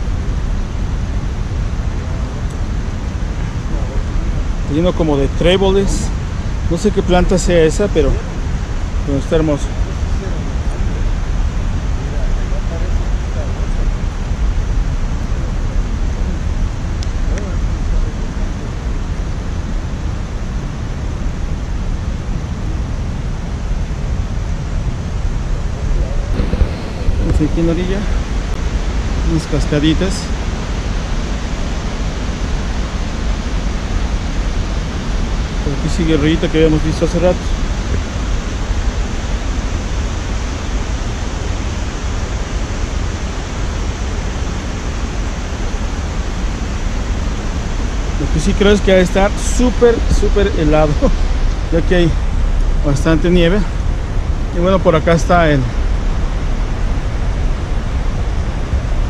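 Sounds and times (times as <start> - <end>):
water rushing over cascades: 0.0 - 59.0
wind rumble on microphone: 0.0 - 59.0.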